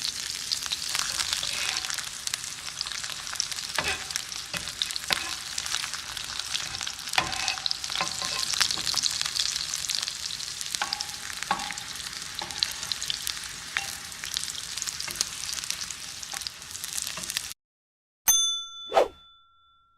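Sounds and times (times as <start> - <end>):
oil popping and crackling: 0.0 - 16.6
fries sizzling in hot oil: 0.0 - 17.6.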